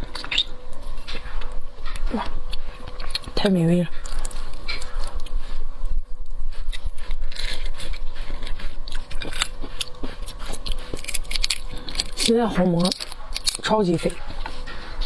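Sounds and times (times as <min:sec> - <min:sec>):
biting and chewing shrimp: 0:00.0 - 0:15.0.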